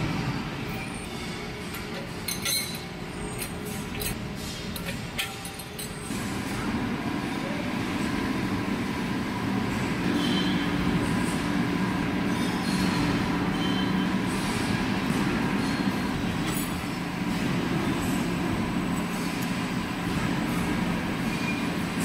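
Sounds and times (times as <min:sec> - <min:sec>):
lathe running with mechanical hum: 0:00.0 - 0:22.0.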